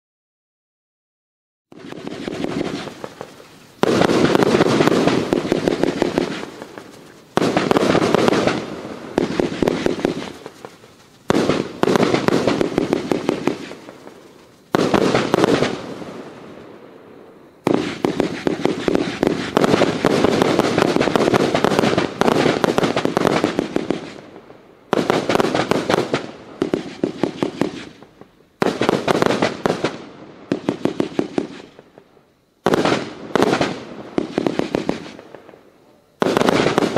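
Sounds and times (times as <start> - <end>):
fireworks bangs: 1.7 - 36.9
fireworks crackling: 1.7 - 36.9.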